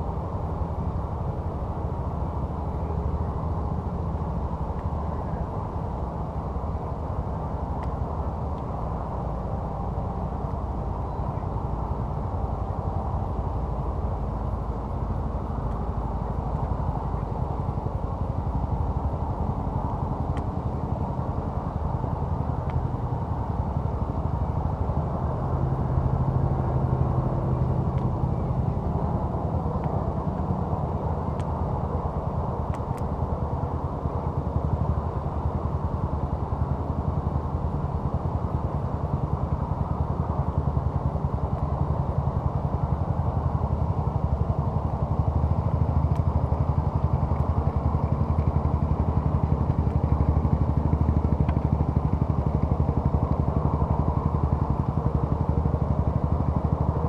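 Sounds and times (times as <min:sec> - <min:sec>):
low engine rumble: 0:00.0 - 0:57.0.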